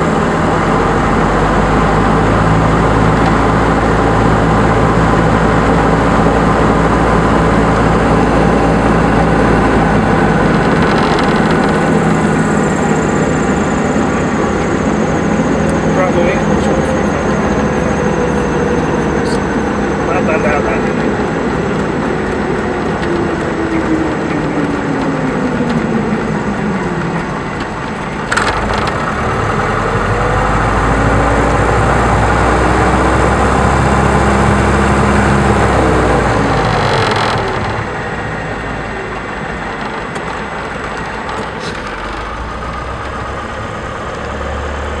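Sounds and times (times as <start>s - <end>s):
light aircraft engine: 0.0s - 45.0s.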